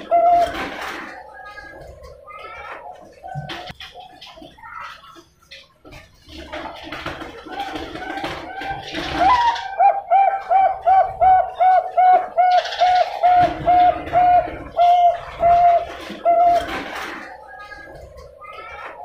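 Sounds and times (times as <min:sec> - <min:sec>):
dove cooing: 0:00.0 - 0:03.8, 0:06.8 - 0:18.9.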